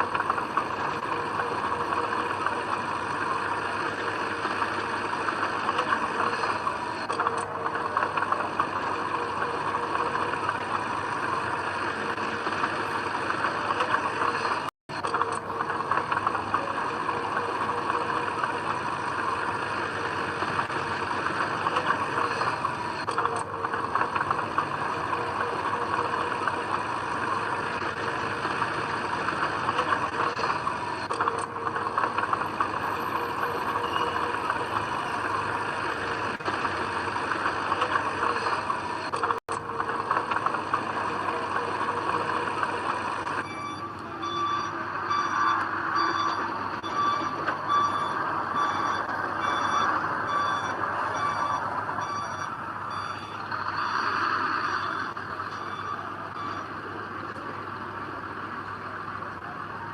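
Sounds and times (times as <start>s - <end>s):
bulldozer engine and tracks rattling: 0.0s - 59.9s.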